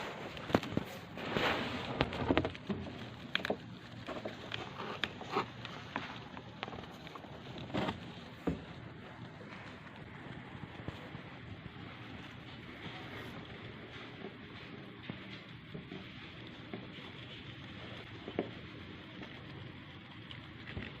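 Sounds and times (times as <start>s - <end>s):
hamster nibbling seeds: 0.2s - 21.0s.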